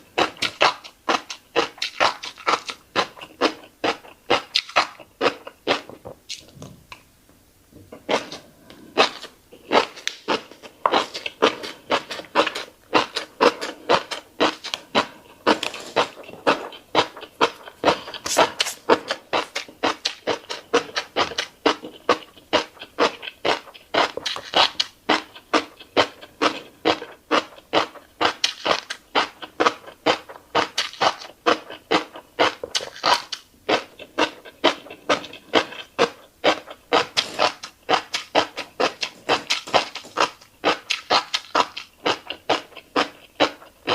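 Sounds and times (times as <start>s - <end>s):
wet chewing of fish roe: 0.0s - 6.7s, 7.9s - 43.9s
mouth smacks: 7.8s - 43.9s.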